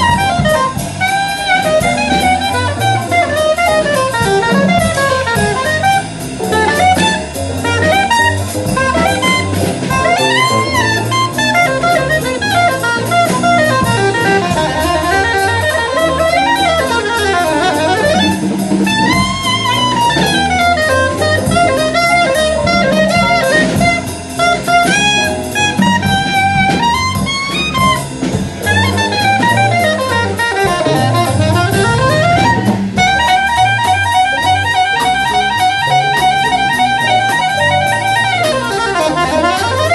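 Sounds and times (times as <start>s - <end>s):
drum kit: 0.0s - 39.9s
electric bass: 0.0s - 39.9s
soprano saxophone jazz solo: 0.0s - 39.9s.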